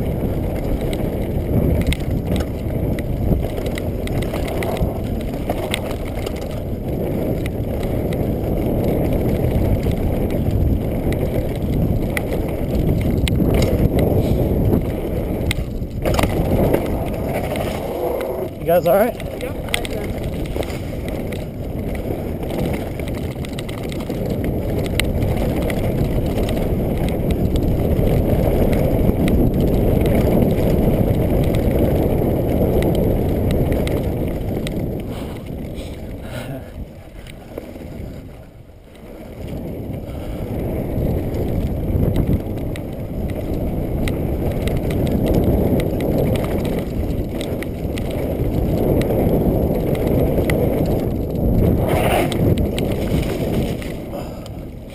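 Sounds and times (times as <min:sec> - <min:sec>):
bike rattling: 0:00.0 - 0:54.9
tyre rumble: 0:00.0 - 0:54.9
wind rushing over microphone: 0:00.0 - 0:54.9.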